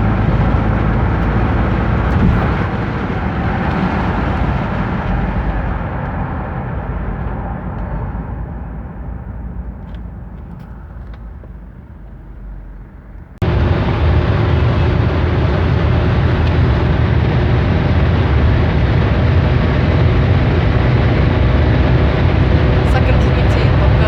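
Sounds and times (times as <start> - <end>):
car engine driving: 0.0 - 24.0
wind and road noise: 0.0 - 24.0.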